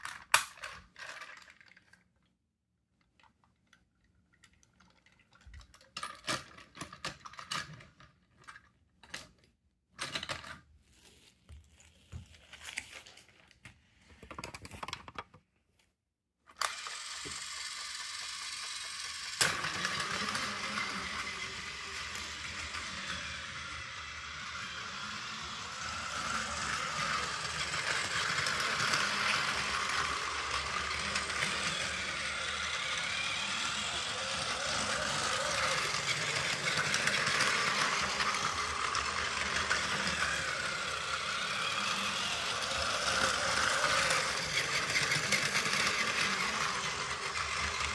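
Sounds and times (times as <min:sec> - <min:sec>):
plastic toy train cars clicking: 0:00.0 - 0:02.1, 0:03.0 - 0:10.6, 0:14.2 - 0:15.4, 0:16.5 - 0:47.9
toy train motor whirring rattle: 0:00.0 - 0:02.1, 0:04.4 - 0:09.3, 0:16.5 - 0:47.9.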